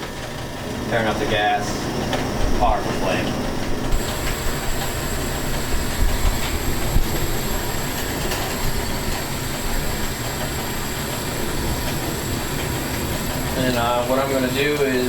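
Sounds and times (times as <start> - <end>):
thin high whine: 0.0 - 15.0
torch flame rushing: 0.0 - 15.0.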